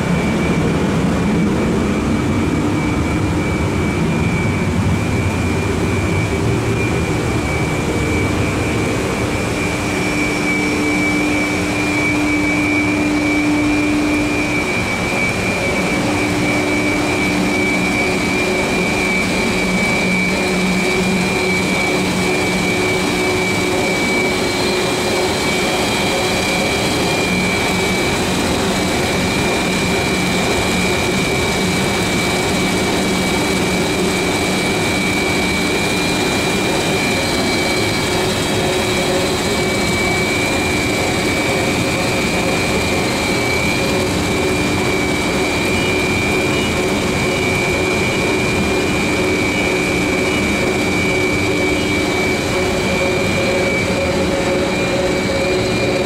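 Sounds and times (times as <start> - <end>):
industrial dryer machine whine and hum: 0.0 - 56.0.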